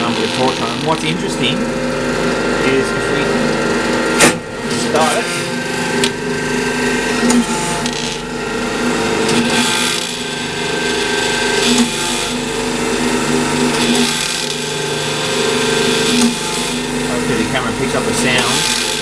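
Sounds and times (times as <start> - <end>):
hydraulic pump humming and buzzing: 0.0 - 19.0.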